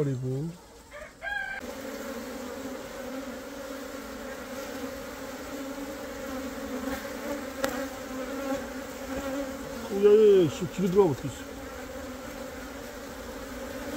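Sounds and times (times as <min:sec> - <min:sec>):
bees buzzing: 0:00.0 - 0:13.9.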